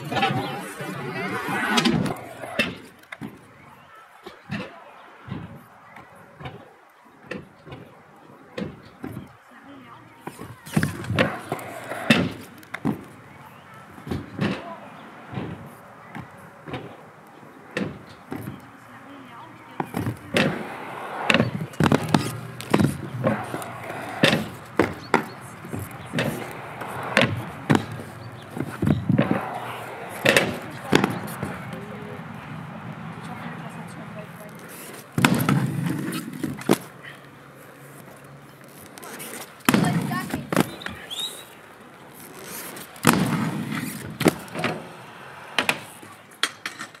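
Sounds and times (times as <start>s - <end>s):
inline skates rolling on concrete: 0.0s - 47.0s
skates clacking on ground: 0.0s - 47.0s.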